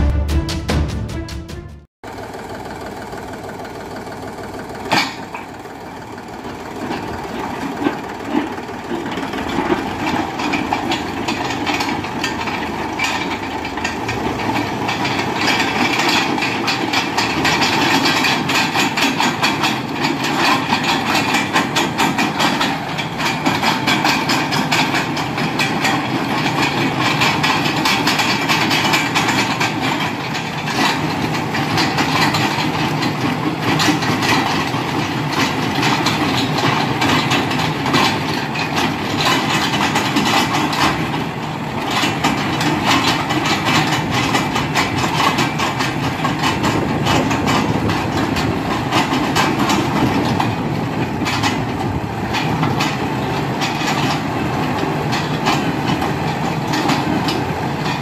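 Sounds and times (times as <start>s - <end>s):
diesel engine under load: 0.0s - 58.0s
auger drive rattling and knocking: 2.1s - 58.0s.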